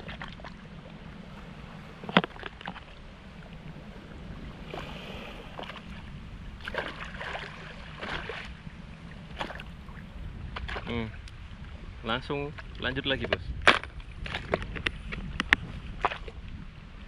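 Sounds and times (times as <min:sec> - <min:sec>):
sea water washing: 0:00.0 - 0:17.0
wind on microphone: 0:00.0 - 0:17.0.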